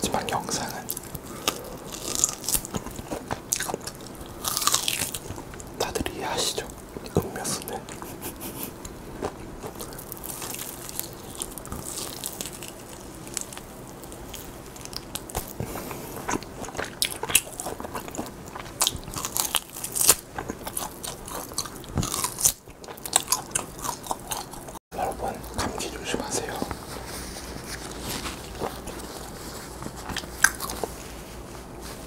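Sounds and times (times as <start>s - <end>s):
crisp crackly snaps: 0.0s - 8.0s, 8.8s - 31.0s
biting and chewing meat: 0.0s - 25.8s, 27.8s - 31.0s.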